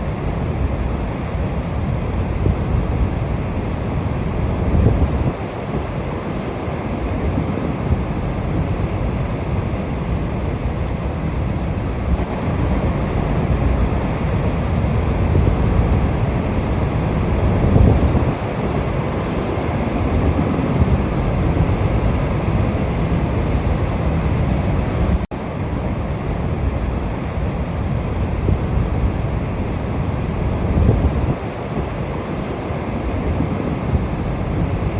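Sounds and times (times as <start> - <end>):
waterfall roaring: 0.0 - 34.9
wind buffeting microphone: 0.0 - 34.9.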